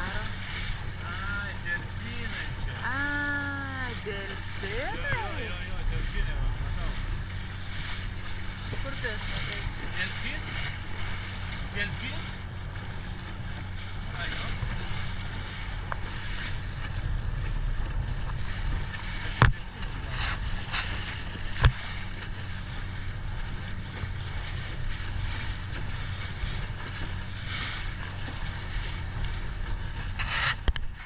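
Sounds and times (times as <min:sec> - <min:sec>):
motorboat engine running: 0:00.0 - 0:31.0
water rushing: 0:00.0 - 0:31.0.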